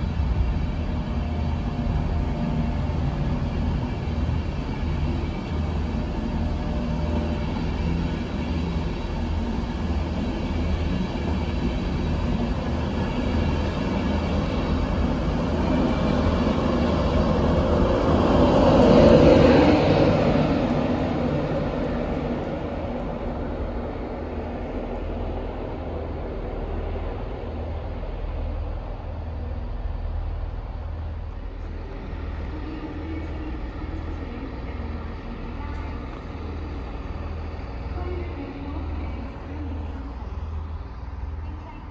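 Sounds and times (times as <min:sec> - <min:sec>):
electric train rumbling: 0:00.0 - 0:41.9
faint station background noise: 0:00.0 - 0:41.9.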